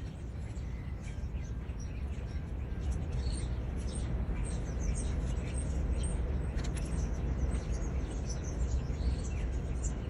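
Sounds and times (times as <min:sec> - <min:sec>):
low background rumble: 0:00.0 - 0:10.0
small birds chirping: 0:00.0 - 0:10.0.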